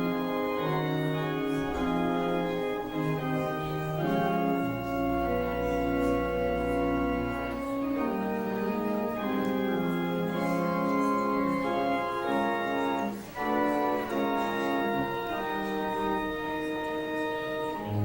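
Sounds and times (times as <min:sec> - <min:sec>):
organ playing sustained chords: 0:00.0 - 0:18.0.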